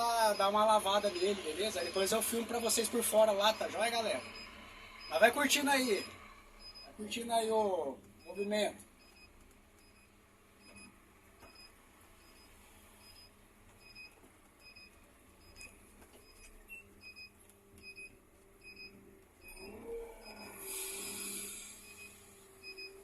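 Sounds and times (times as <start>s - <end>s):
electronic warning beep: 0.0s - 23.0s
quiet steady hum: 0.0s - 23.0s.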